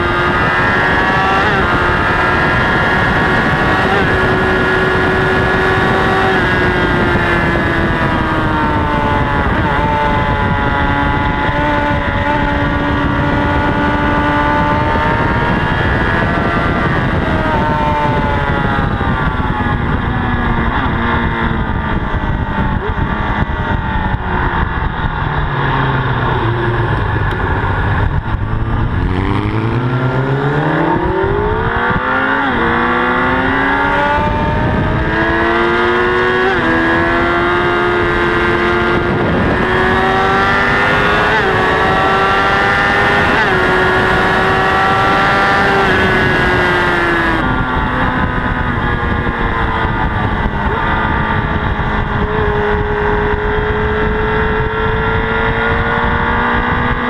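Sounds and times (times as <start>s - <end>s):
motorcycle engine shifting gears: 0.0s - 57.0s
wind rush: 0.0s - 57.0s.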